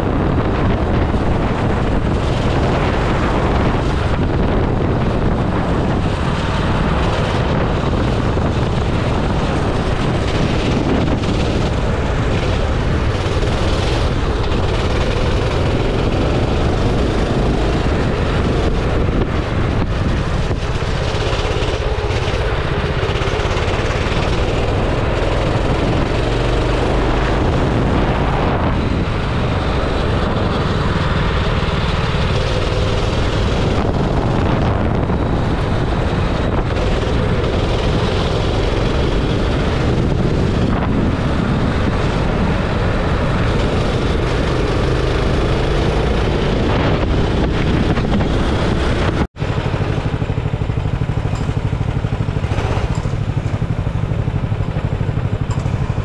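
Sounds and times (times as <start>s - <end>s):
go-kart engine running: 0.0s - 56.0s
wind buffeting microphone: 0.0s - 56.0s.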